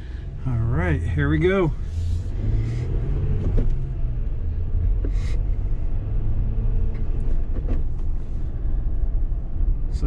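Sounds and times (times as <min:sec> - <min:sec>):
car engine and road rumble: 0:00.0 - 0:10.0
tire noise: 0:00.0 - 0:10.0.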